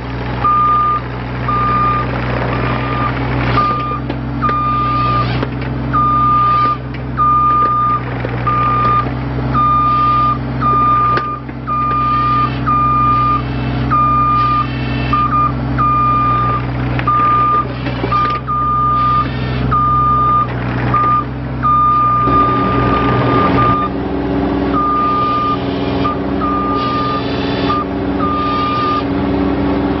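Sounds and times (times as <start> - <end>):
excavator diesel engine running: 0.0 - 30.0
reversing alarm beeping: 0.4 - 24.0, 24.7 - 29.1.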